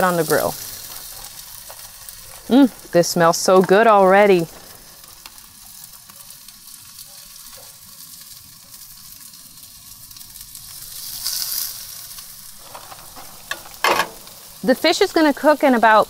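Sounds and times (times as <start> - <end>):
fish sizzling on grill: 0.0 - 16.0.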